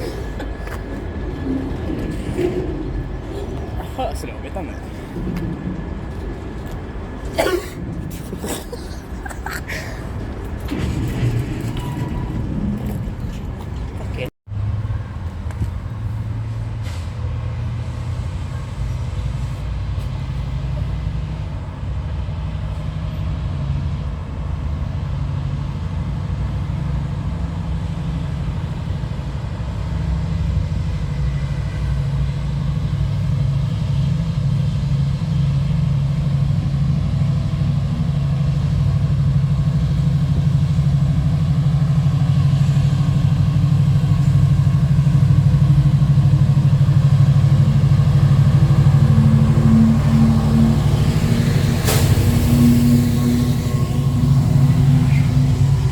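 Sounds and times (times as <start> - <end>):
diesel train engine running: 0.0 - 55.9.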